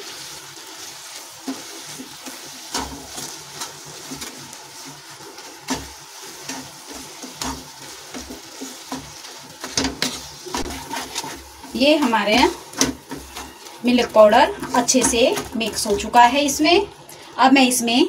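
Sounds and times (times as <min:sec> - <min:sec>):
spatula scraping a pan: 0:00.0 - 0:16.3
light sizzle: 0:00.0 - 0:18.0.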